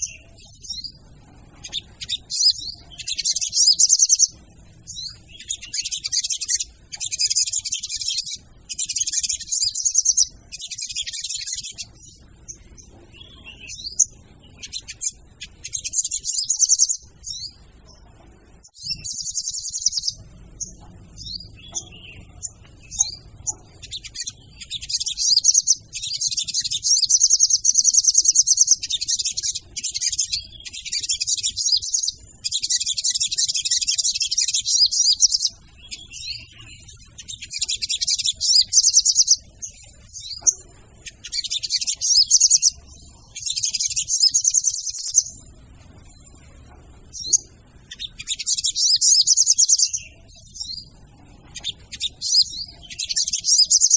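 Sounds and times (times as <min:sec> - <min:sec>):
bird trilling: 0:00.0 - 0:18.0, 0:18.6 - 0:53.9
bird chirps: 0:00.0 - 0:53.9.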